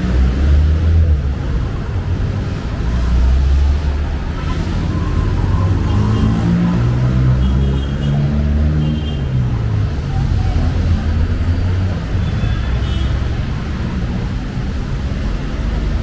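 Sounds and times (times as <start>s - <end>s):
traffic engines rumbling: 0.0s - 16.0s
vehicles passing: 0.0s - 16.0s.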